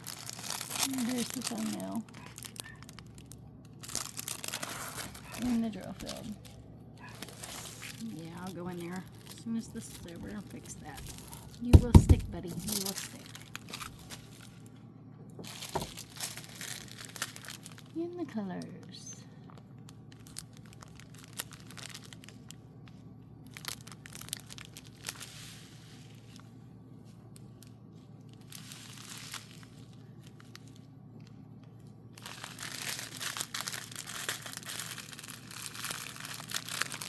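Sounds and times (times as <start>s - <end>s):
plastic film crinkling: 0.0s - 14.8s, 15.4s - 18.8s, 19.4s - 37.0s.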